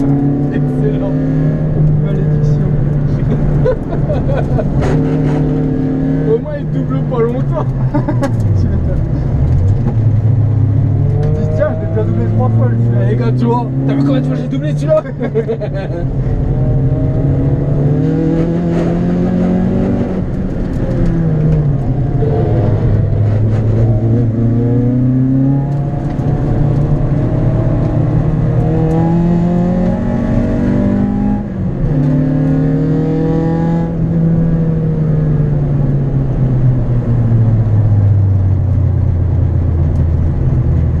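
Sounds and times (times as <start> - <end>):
car engine pulling hard: 0.0 - 41.0.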